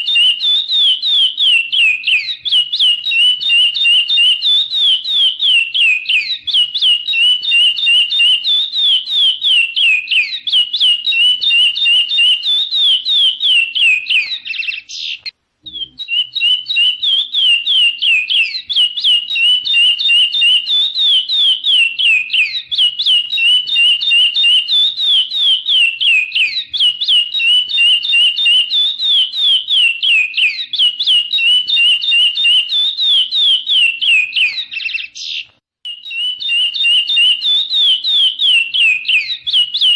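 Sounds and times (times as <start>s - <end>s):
finch singing whistled notes: 0.0s - 39.9s.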